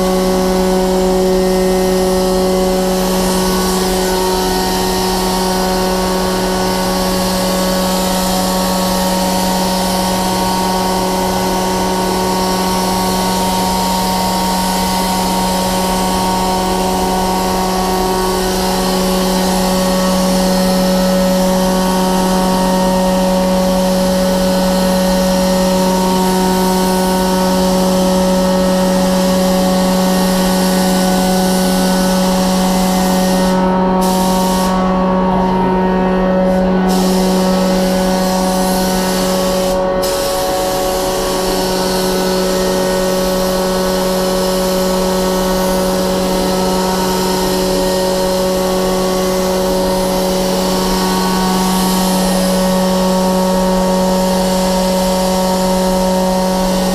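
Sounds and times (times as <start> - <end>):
paint spray gun hissing: 0.0 - 56.9
ventilation hum: 0.0 - 56.9.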